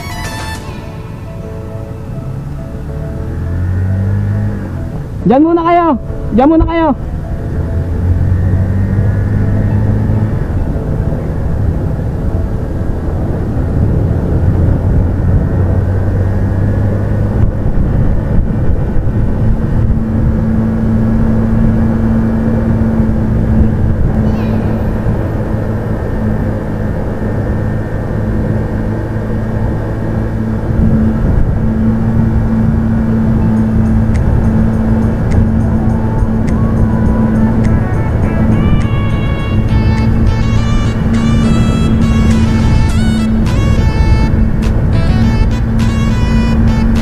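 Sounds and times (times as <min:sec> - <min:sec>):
motorcycle engine cruising: 0:00.0 - 0:47.0
riding wind noise: 0:00.0 - 0:47.0.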